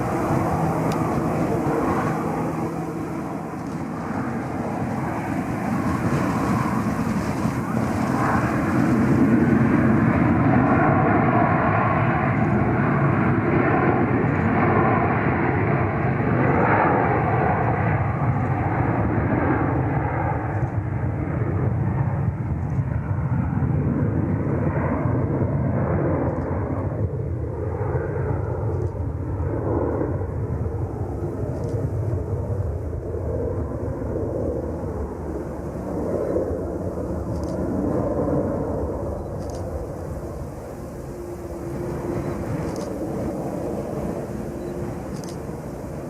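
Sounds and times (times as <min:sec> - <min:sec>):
airliner engine rushing: 0:00.0 - 0:46.0.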